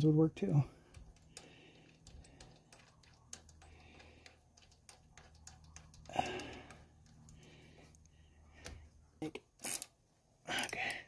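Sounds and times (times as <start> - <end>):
faint clicks of steel parts: 0.4 - 11.0.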